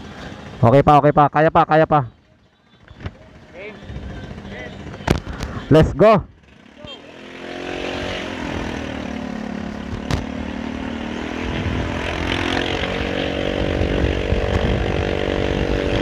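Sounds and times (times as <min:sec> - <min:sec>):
scooter engine accelerating: 0:00.0 - 0:16.0
wind and road noise: 0:00.0 - 0:16.0.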